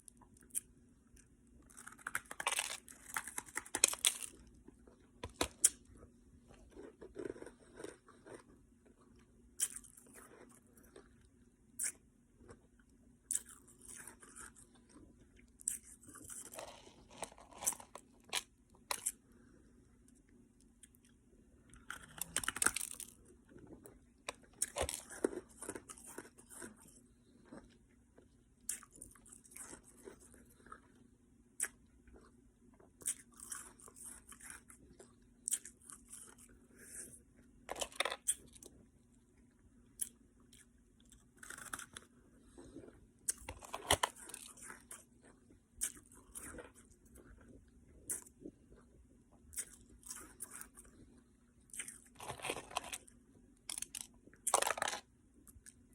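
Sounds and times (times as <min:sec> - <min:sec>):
faint steady hum: 0:00.0 - 0:55.9
ice being chewed: 0:00.4 - 0:05.9, 0:06.5 - 0:19.2, 0:20.8 - 0:37.1, 0:40.0 - 0:55.9.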